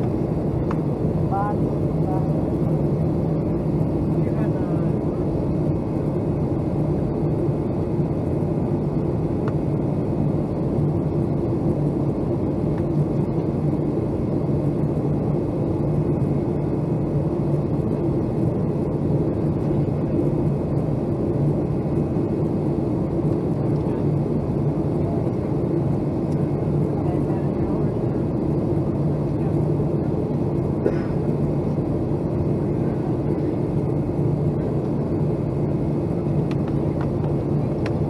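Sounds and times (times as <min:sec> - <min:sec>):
low engine hum: 0:00.0 - 0:38.0.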